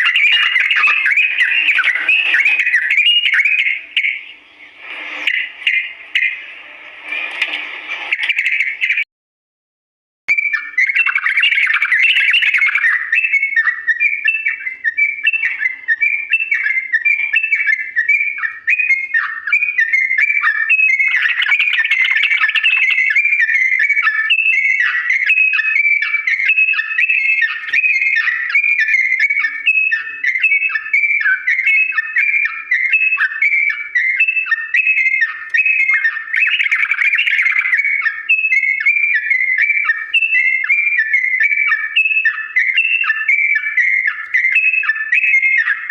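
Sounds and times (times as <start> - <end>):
bird singing rapid chirps: 0.0 - 9.1, 10.3 - 45.9.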